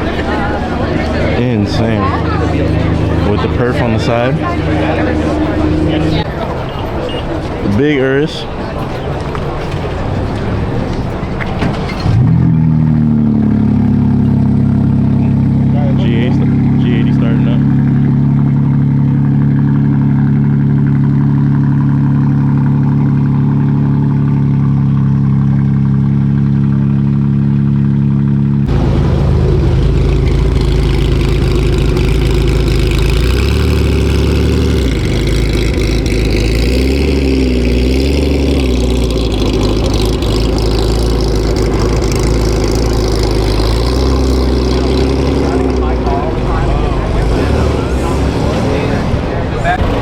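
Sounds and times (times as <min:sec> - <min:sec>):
car engine idling: 0:00.0 - 0:50.0
rough noisy engine sound: 0:00.0 - 0:50.0.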